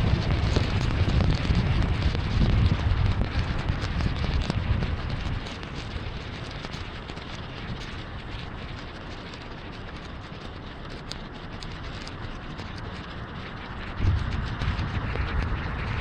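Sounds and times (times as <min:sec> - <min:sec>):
heavy rain on a car: 0:00.0 - 0:16.0
raindrop ticks: 0:00.0 - 0:16.0.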